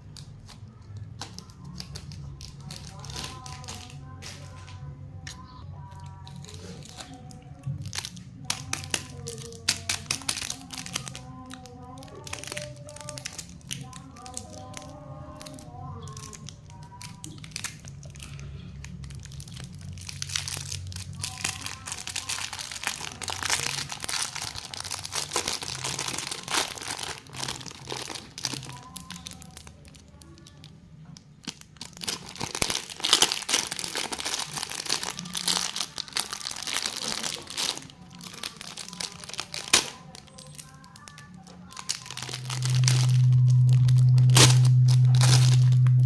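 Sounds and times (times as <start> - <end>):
faint background music: 0.0 - 46.0
plastic wrappers crinkling: 0.0 - 46.0.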